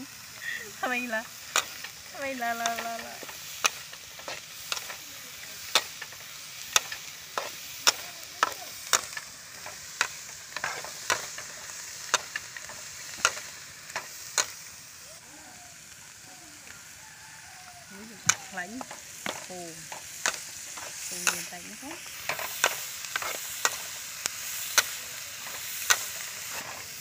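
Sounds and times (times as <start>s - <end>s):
shrimp sizzling: 0.0s - 27.0s.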